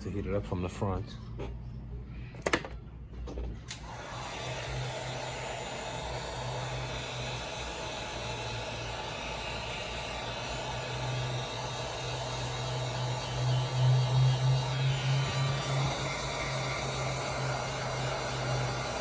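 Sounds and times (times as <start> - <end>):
heat gun blowing: 3.7 - 19.0.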